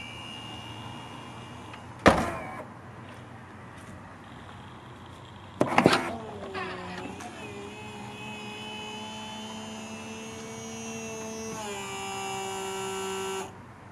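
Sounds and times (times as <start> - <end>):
electric hydraulic pump whining: 0.0 - 2.7, 4.3 - 13.6.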